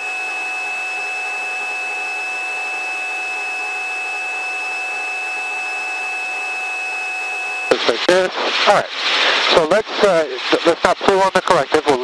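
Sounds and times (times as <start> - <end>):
helicopter cabin hiss and whine: 1.7 - 12.0.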